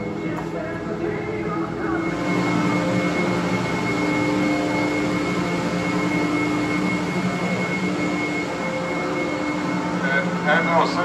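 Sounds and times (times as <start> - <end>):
air compressor drone: 0.0 - 11.0
high whine: 0.0 - 11.0.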